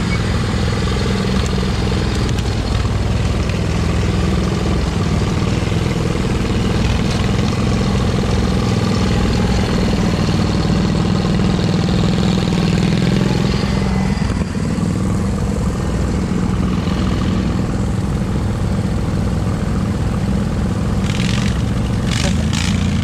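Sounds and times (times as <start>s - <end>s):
small engines droning: 0.0s - 23.0s.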